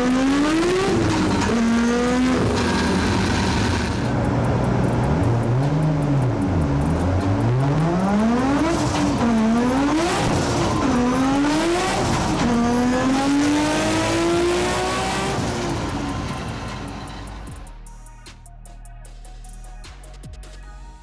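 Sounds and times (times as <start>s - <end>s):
car engine revving hard: 0.0s - 17.5s.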